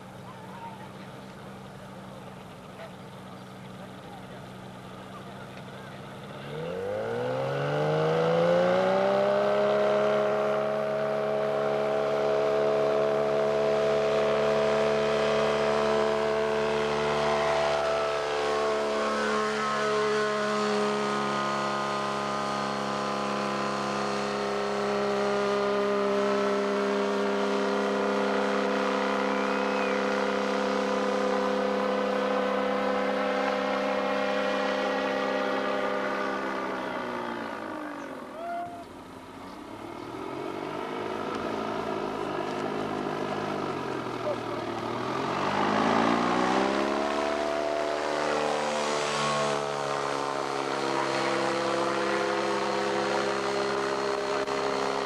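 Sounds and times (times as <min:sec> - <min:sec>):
light aircraft engine full throttle: 0:00.0 - 0:55.0.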